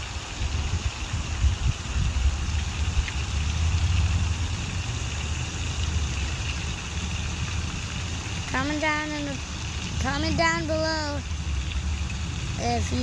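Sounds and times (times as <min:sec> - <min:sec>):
steady outdoor hiss: 0:00.0 - 0:13.0
wind buffeting microphone: 0:00.0 - 0:13.0.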